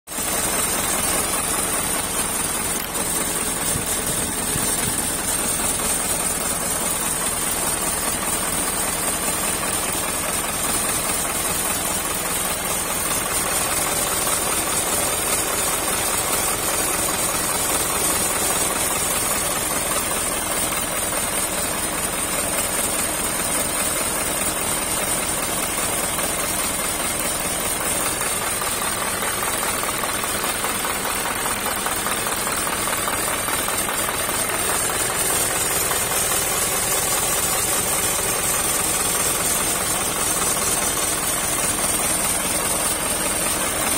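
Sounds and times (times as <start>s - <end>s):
diesel engine idling: 0.1s - 43.9s.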